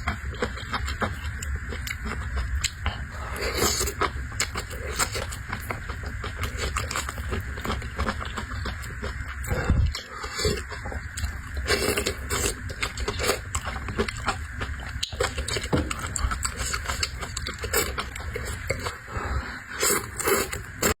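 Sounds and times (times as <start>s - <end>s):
person chewing and slurping: 0.0s - 21.0s.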